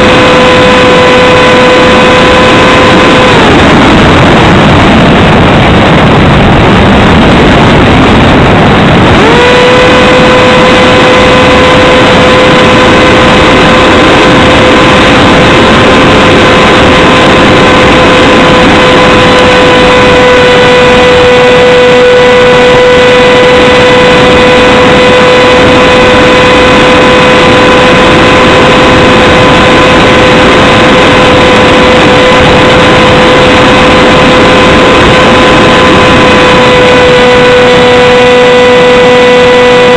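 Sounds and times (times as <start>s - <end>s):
electric motor whine: 0.0s - 39.9s
wind rush on microphone: 0.0s - 39.9s.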